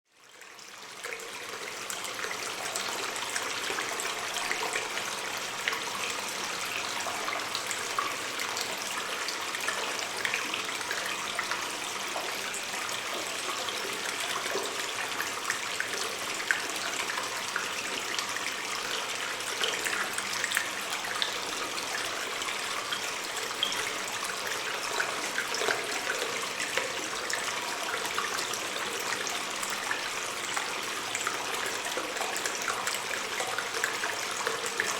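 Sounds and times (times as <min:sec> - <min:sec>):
stream trickling: 0:00.2 - 0:34.9
water drips and splashes: 0:00.2 - 0:34.9.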